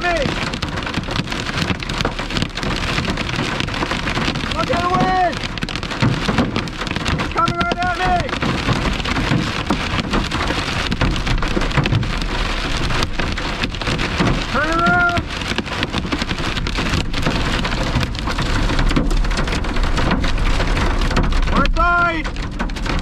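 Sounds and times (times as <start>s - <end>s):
heavy rain on vehicle roof: 0.0s - 23.0s
steady low rumble: 0.0s - 23.0s.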